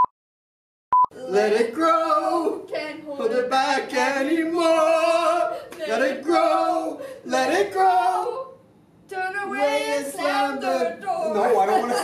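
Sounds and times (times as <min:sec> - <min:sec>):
voices singing unaccompanied: 0:01.1 - 0:12.0.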